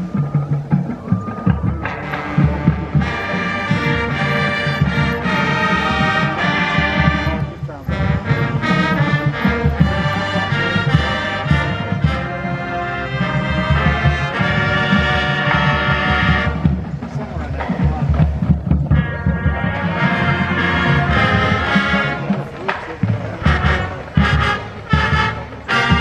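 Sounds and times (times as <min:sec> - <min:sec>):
brass band playing: 0:00.0 - 0:26.0
steady drum beat: 0:00.0 - 0:26.0.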